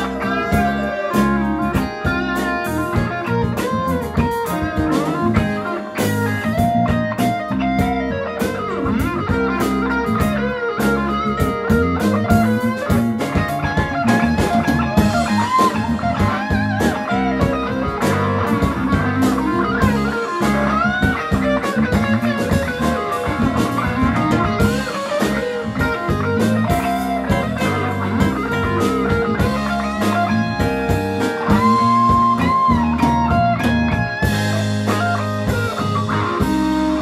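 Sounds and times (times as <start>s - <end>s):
lead guitar bending notes: 0.0s - 37.0s
live blues-rock band: 0.0s - 37.0s.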